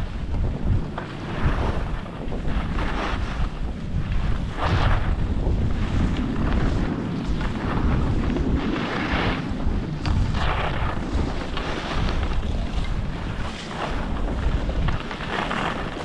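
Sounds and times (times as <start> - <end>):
skis scraping on snow: 0.0 - 16.0
wind buffeting microphone: 0.0 - 16.0.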